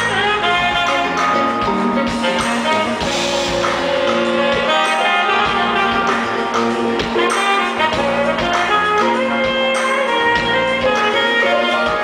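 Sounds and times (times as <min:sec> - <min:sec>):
saxophone melody: 0:00.0 - 0:12.0
smooth jazz band playing: 0:00.0 - 0:12.0.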